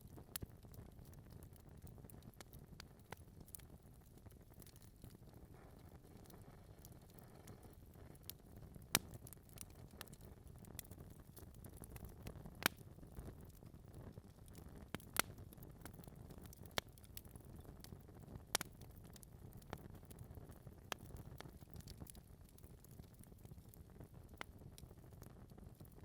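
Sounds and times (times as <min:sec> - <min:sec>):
logs crackling and popping: 0:00.0 - 0:26.0
low rumble of fire: 0:00.0 - 0:26.0.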